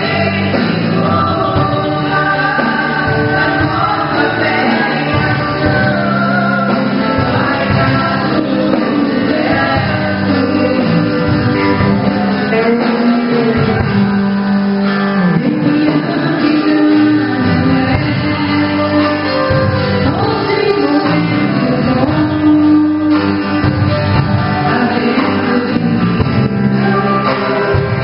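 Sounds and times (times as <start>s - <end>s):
band accompaniment: 0.0s - 28.0s
worship singing: 0.0s - 28.0s.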